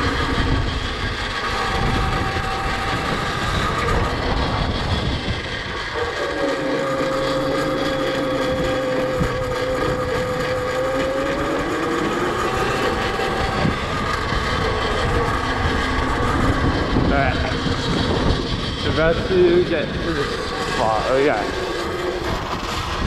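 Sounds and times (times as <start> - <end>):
electric motor high whine: 0.0 - 23.0
rushing wind: 0.0 - 23.0.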